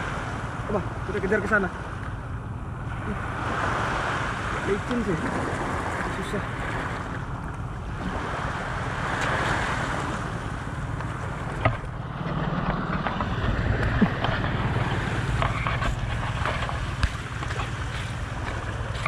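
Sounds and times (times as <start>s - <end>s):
waves washing against seawall: 0.0s - 2.2s, 2.8s - 19.0s
wind rumbling on microphone: 0.0s - 19.0s.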